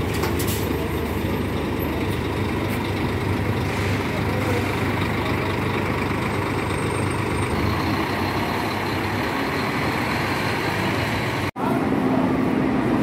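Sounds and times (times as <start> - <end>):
bus diesel engine idling: 0.0 - 13.0.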